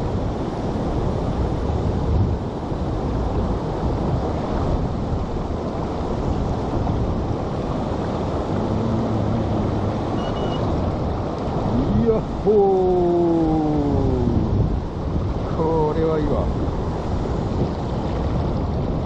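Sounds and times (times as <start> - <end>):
river water rushing: 0.0 - 19.0
wind buffeting microphone: 0.0 - 19.0.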